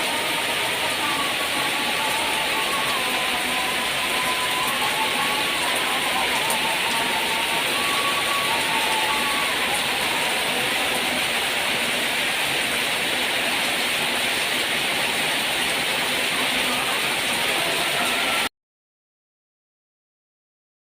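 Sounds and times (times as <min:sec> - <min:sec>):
steady rain falling: 0:00.0 - 0:18.5.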